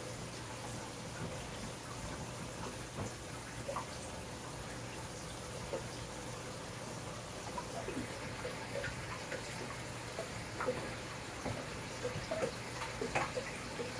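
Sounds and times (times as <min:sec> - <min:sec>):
small watery plips and clicks: 0:00.6 - 0:06.2, 0:07.5 - 0:13.9.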